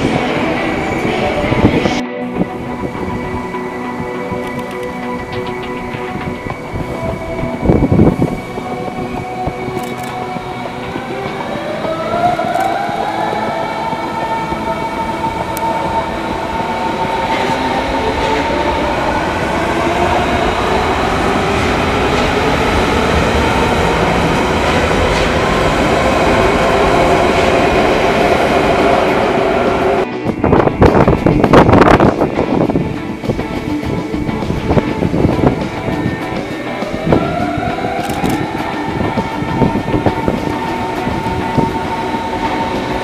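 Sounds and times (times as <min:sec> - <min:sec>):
wheels rumbling on rails: 0:00.0 - 0:43.0.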